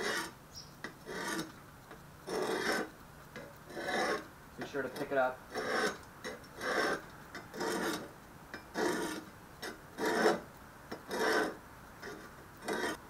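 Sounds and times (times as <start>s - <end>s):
steel scraping on sharpening stone: 0.0s - 1.6s, 2.3s - 13.0s.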